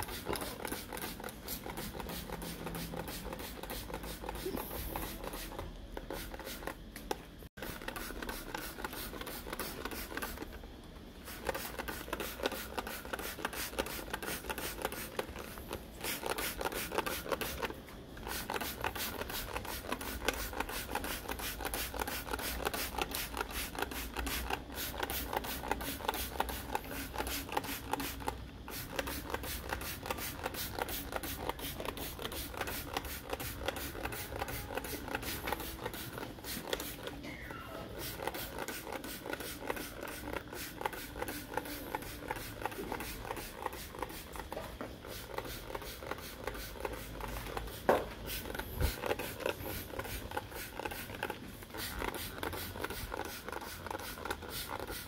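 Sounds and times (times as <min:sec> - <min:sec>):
spray bottle hissing: 0:00.0 - 0:06.8, 0:07.6 - 0:10.5, 0:11.2 - 0:37.2, 0:37.9 - 0:55.0.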